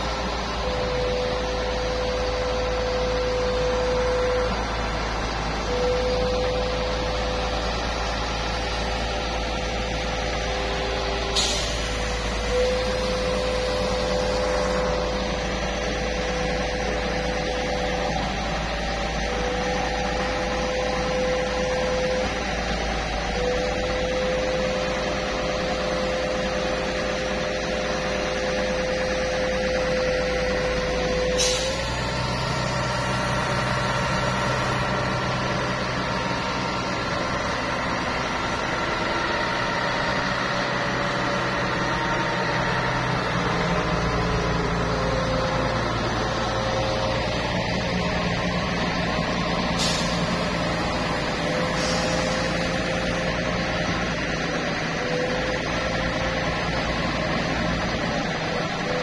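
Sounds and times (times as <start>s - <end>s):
concrete pump engine droning: 0.0s - 59.0s.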